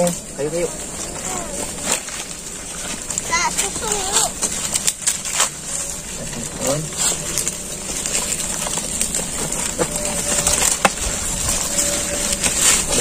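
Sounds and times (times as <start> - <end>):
dry sticks and leaves rustling: 0.0 - 13.0.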